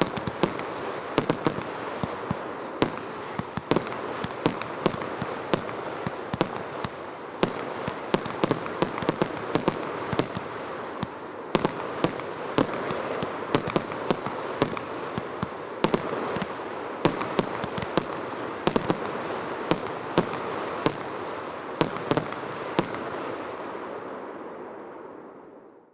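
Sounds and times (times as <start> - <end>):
fireworks bangs: 0.0 - 25.3.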